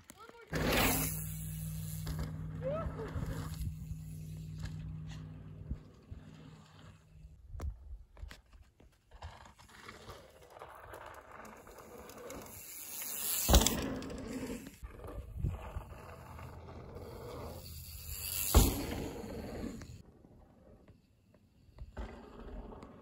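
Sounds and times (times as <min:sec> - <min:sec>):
bike tyres rolling on dirt: 0:00.0 - 0:23.0.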